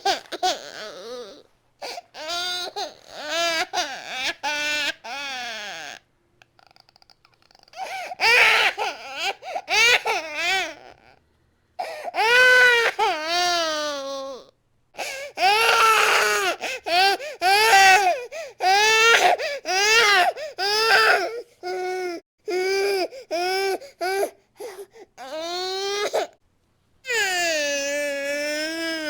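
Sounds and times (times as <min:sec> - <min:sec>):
baby crying: 0:00.0 - 0:06.0, 0:07.8 - 0:11.1, 0:11.8 - 0:26.4, 0:27.1 - 0:29.0.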